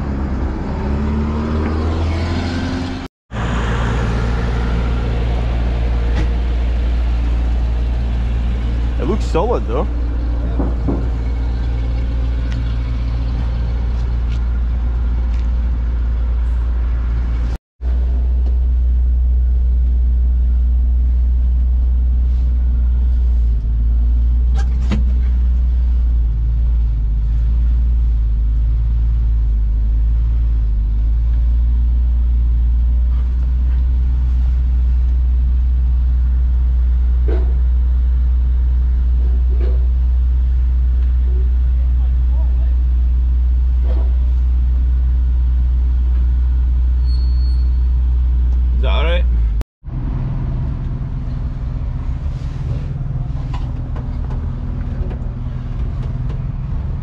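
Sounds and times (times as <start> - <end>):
pickup engine low rumble: 0.0 - 57.0.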